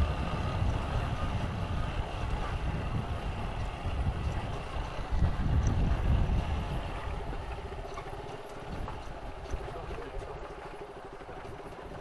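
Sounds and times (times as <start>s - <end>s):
wind rumbling on microphone: 0.0s - 10.6s
motorcycle engine running: 0.0s - 12.0s.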